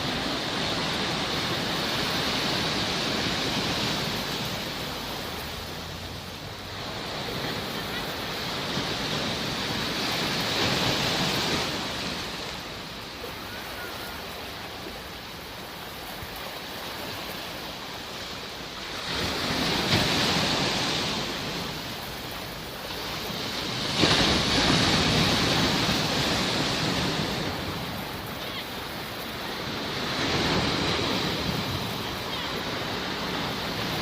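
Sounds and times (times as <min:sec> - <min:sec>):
sea waves on shore: 0:00.0 - 0:34.0.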